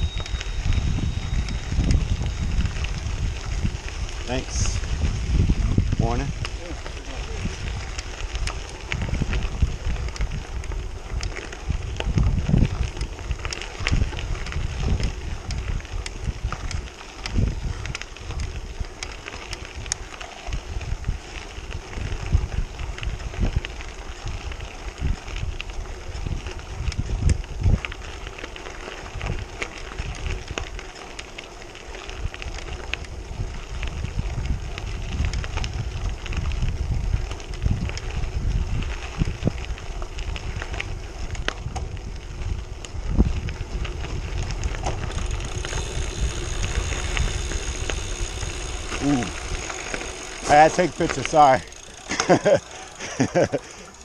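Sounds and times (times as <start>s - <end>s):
wind buffeting microphone: 0.0s - 53.5s
bike tyres crunching on gravel: 0.0s - 54.0s
stones ticking against frame: 5.8s - 54.0s.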